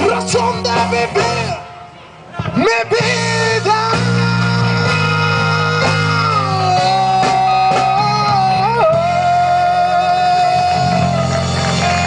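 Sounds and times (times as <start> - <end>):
guitar: 0.0 - 12.0
live band music: 0.0 - 12.0.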